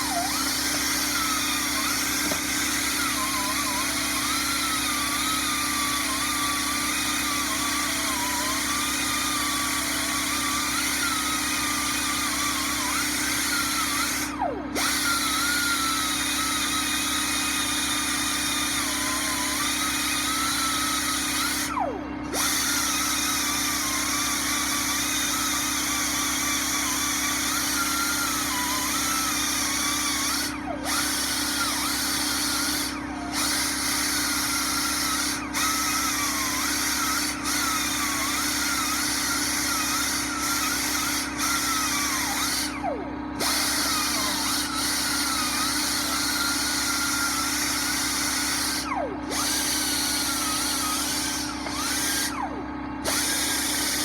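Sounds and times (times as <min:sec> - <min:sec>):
power tool wire brush whining: 0:00.0 - 0:54.0.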